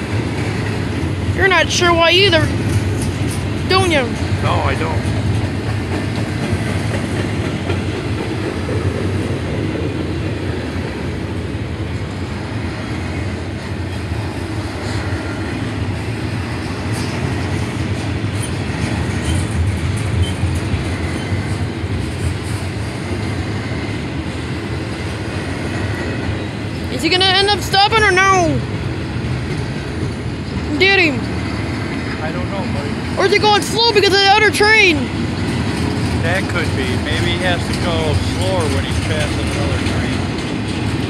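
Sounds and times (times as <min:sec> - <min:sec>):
freight train rumbling on rails: 0:00.0 - 0:41.0
train wheels clickety-clack: 0:00.0 - 0:41.0.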